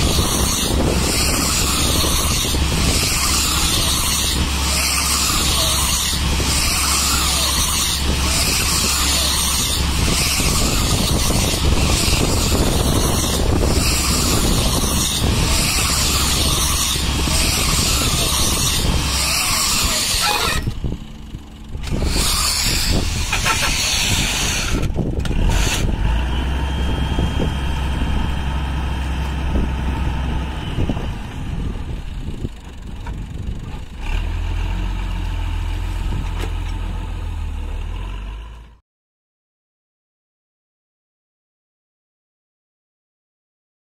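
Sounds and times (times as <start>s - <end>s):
tractor engine running: 0.0s - 38.7s.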